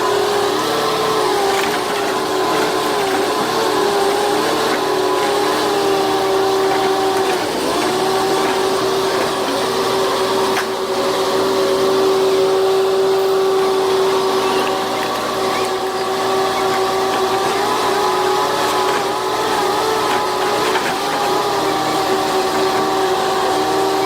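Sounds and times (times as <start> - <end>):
motor whining: 0.0 - 24.0.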